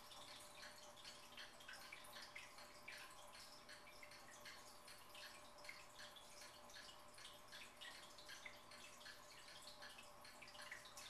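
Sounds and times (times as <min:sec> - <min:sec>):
low steady hum: 0:00.0 - 0:11.0
water dripping in a fish tank: 0:00.0 - 0:11.0.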